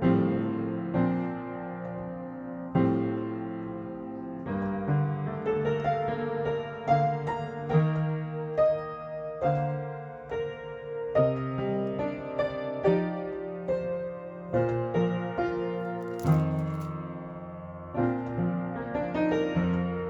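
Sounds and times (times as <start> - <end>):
solo piano music: 0.0 - 20.0.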